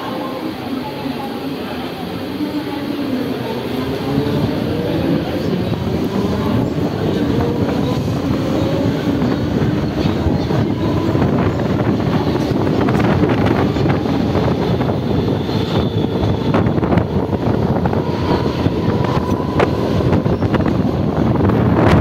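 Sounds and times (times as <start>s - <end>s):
train rumbling and rattling: 0.0s - 22.0s
wind on microphone: 3.7s - 22.0s.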